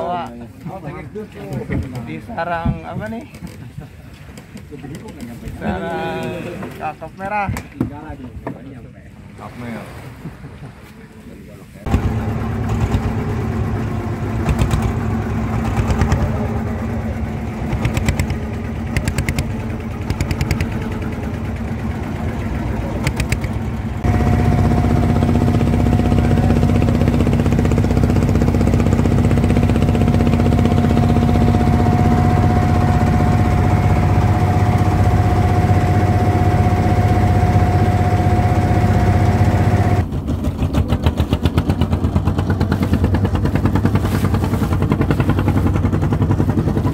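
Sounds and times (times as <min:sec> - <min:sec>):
boat engine chugging: 0:00.0 - 0:46.9.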